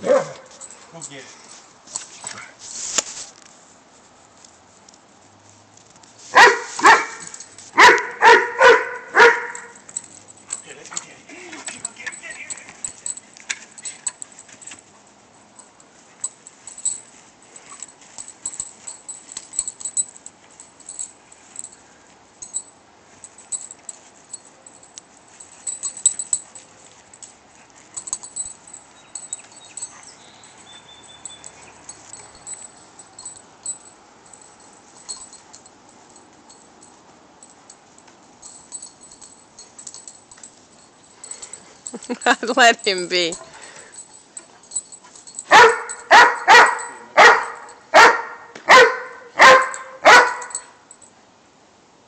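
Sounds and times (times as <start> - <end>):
collar jingles: 0.0 - 51.3.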